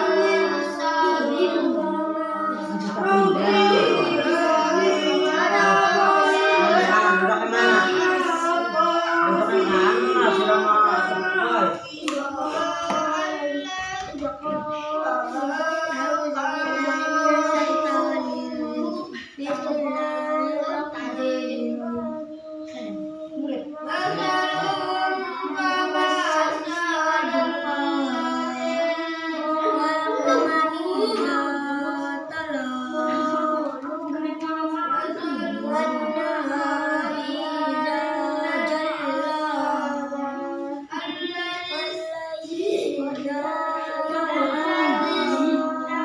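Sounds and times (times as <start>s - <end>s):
children chanting recitation: 0.0s - 46.0s.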